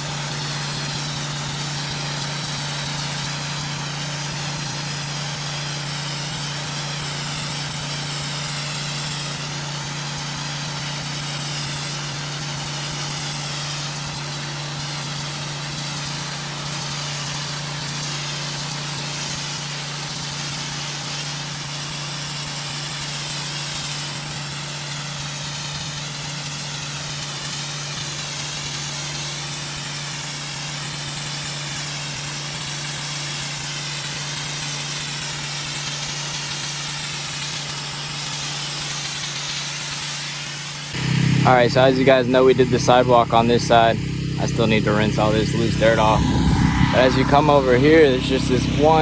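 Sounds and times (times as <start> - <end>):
pressure washer engine running: 0.0 - 49.0
water spray hissing on concrete: 0.0 - 49.0.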